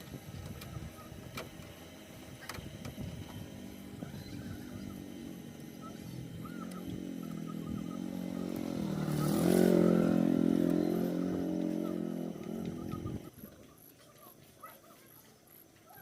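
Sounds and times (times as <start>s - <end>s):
small engine revving: 0.0s - 13.3s.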